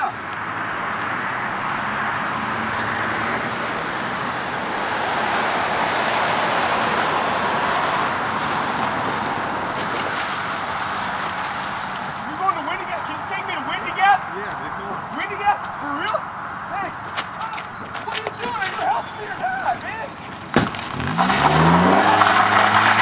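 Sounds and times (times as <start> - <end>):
cars driving past: 0.0 - 23.0.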